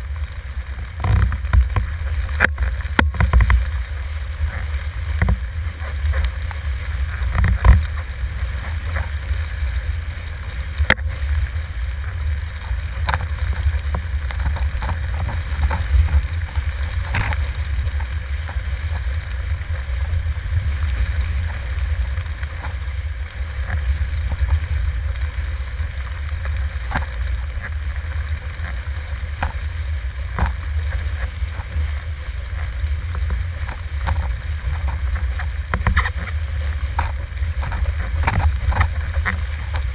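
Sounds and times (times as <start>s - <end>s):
water rushing past: 0.0s - 39.9s
wind buffeting microphone: 0.0s - 39.9s
board knocking on waves: 0.8s - 9.3s, 10.6s - 22.8s, 28.4s - 39.9s.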